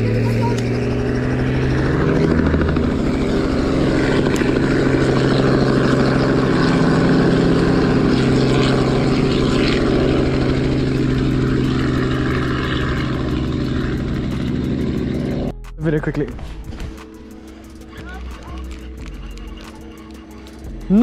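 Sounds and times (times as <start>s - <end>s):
propeller aircraft droning overhead: 0.0s - 21.0s.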